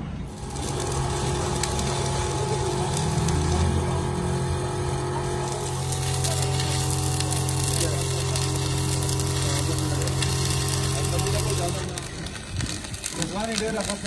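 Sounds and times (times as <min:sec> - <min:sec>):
steady low hum: 0:00.0 - 0:14.0
welding arc crackling: 0:00.0 - 0:14.0.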